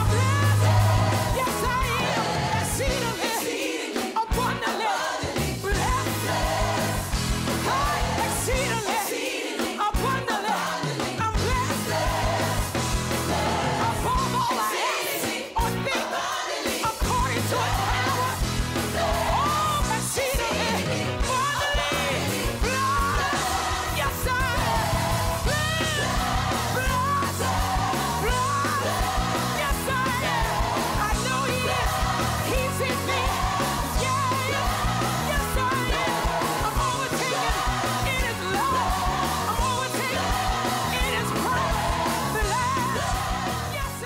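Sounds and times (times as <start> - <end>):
song with singing over a band: 0.0 - 44.0.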